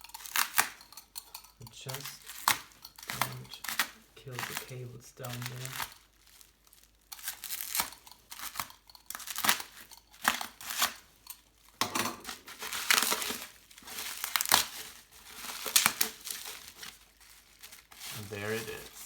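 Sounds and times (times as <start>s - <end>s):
packaging crinkling and tearing: 1.7s - 19.0s.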